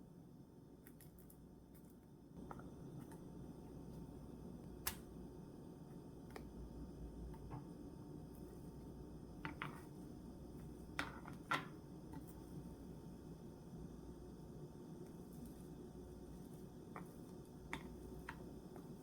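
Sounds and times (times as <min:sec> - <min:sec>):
faint low room hum: 0:00.0 - 0:19.0.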